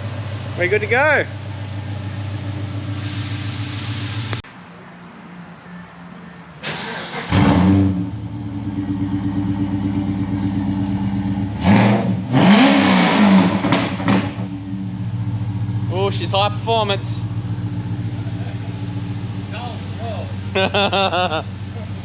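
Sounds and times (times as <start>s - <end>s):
car engine idling and revving: 0.0s - 4.5s, 6.7s - 22.0s.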